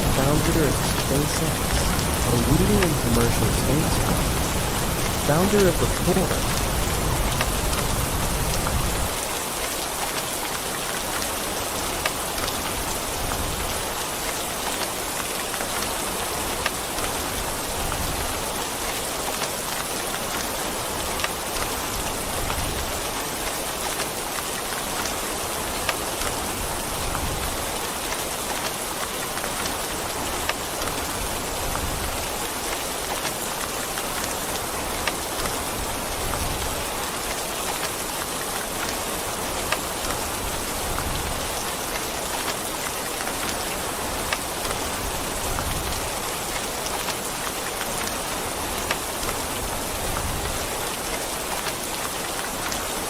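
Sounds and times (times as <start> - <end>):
steady rain hissing: 0.0 - 53.0.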